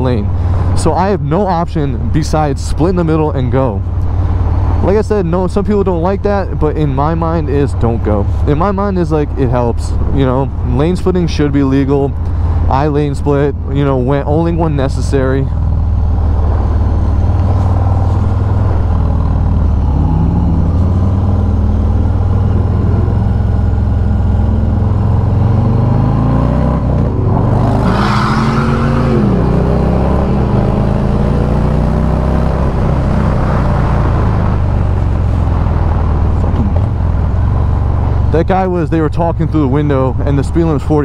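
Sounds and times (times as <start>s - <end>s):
motorcycle engine accelerating: 0.0s - 41.0s.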